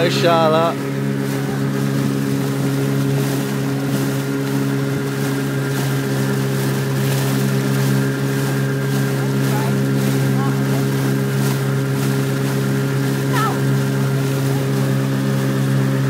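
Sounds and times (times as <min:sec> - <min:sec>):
motorboat engine droning: 0:00.0 - 0:16.0
wind and water hiss: 0:00.0 - 0:16.0.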